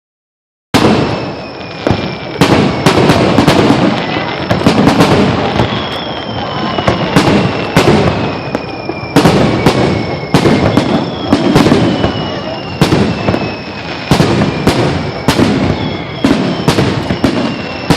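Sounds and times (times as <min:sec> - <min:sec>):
fireworks crackling: 0:00.7 - 0:17.9
fireworks shells bursting: 0:00.8 - 0:17.9
high whistles falling in pitch: 0:00.8 - 0:17.9.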